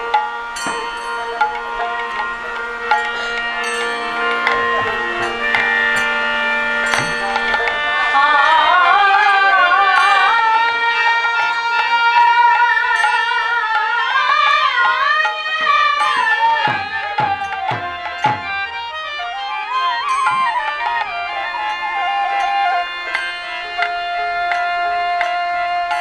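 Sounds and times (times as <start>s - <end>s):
devotional melody with vibrato: 0.0s - 26.0s.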